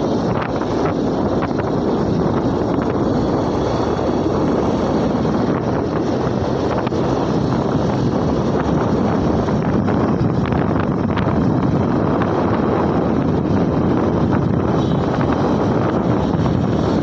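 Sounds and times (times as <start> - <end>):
motorbike engine: 0.0 - 17.0
wind on microphone: 0.0 - 17.0.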